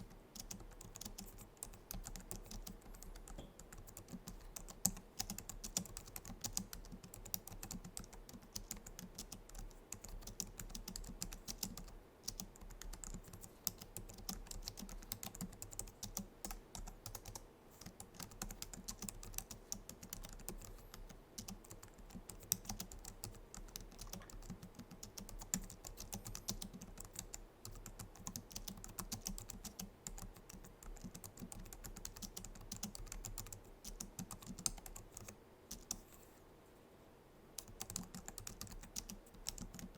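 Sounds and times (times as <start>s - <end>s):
keyboard typing clicks: 0.0s - 36.0s, 37.6s - 39.9s.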